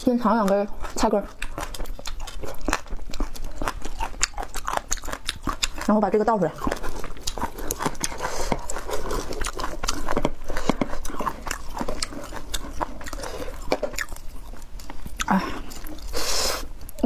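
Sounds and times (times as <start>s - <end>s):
close chewing: 0.0s - 17.0s.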